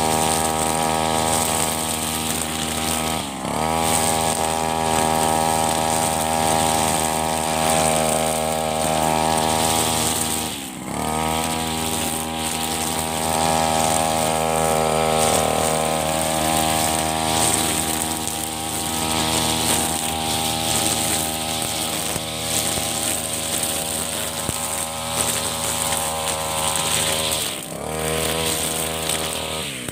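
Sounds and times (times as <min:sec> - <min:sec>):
brush cutter engine cutting grass: 0:00.0 - 0:29.9.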